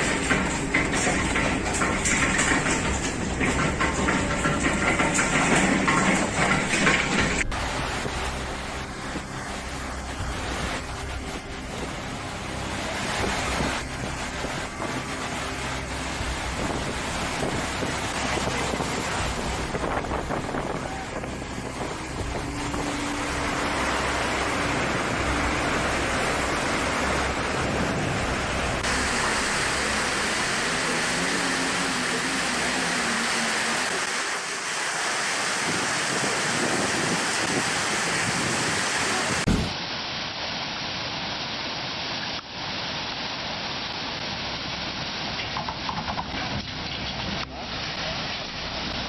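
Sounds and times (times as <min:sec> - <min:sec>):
rushing wind and water: 0:00.0 - 0:49.0.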